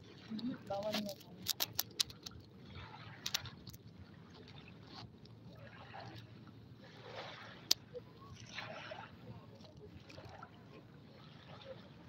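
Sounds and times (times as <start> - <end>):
waves lapping on pebbles: 0.0 - 12.0.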